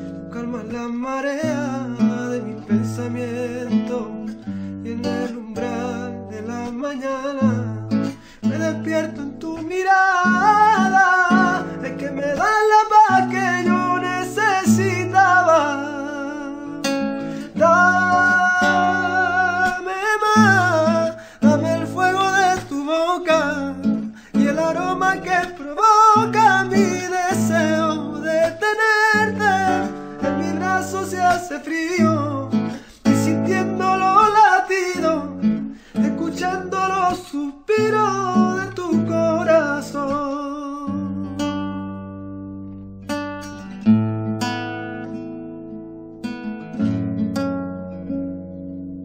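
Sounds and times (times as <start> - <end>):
man singing a ballad: 0.0 - 42.5
acoustic guitar: 0.0 - 49.0.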